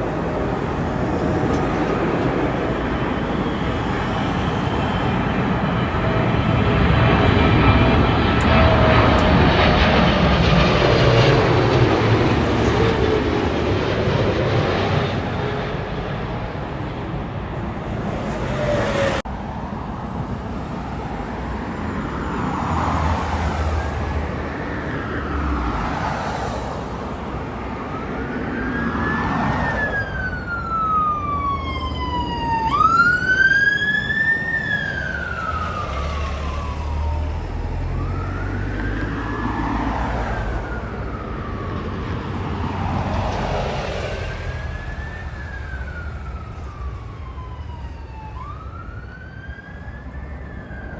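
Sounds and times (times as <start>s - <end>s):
siren wailing: 0.0s - 19.2s, 21.7s - 50.9s
jet airliner passing overhead: 0.0s - 50.9s.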